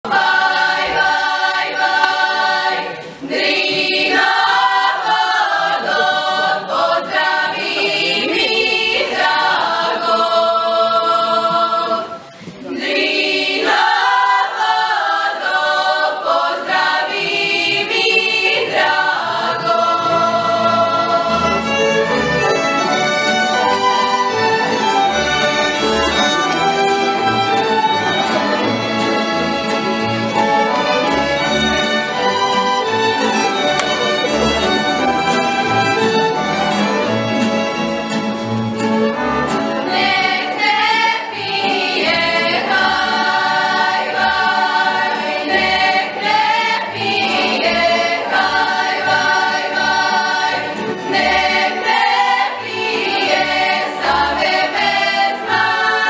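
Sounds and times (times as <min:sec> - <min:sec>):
group singing unaccompanied: 0:00.0 - 0:37.2, 0:39.5 - 0:56.0.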